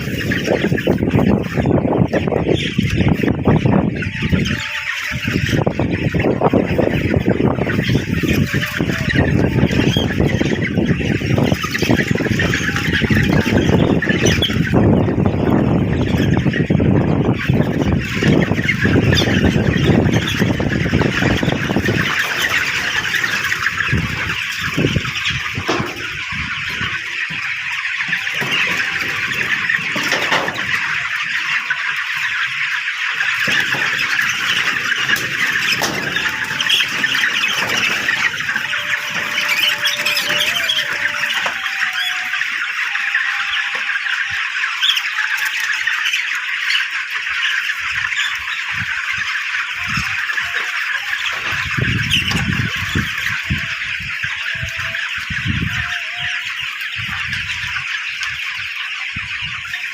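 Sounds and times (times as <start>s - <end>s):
chickens peeping and chirping: 0.0s - 59.9s.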